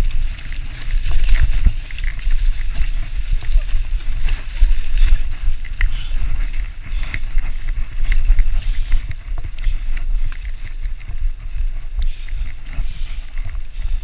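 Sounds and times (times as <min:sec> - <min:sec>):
bike clicks and rattles: 0:00.0 - 0:14.0
tyre noise on dirt: 0:00.0 - 0:14.0
wind rumbling on microphone: 0:00.0 - 0:14.0.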